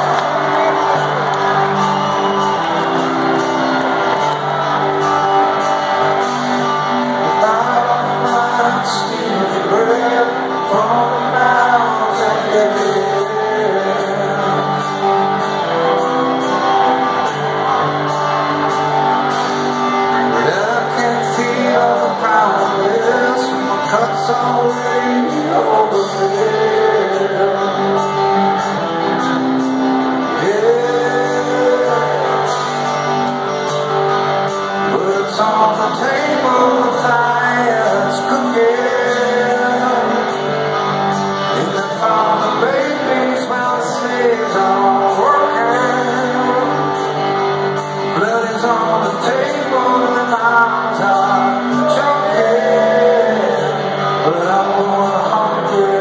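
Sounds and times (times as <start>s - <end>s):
person singing: 0.0s - 34.0s, 34.6s - 56.0s
live rock band playing: 0.0s - 56.0s
strummed guitar: 0.0s - 56.0s.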